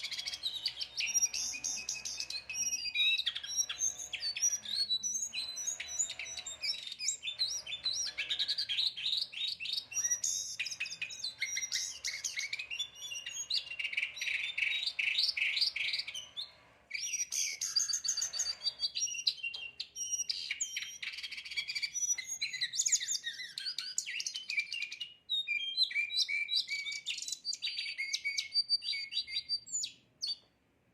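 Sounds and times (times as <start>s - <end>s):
songbird singing: 0.0s - 30.4s.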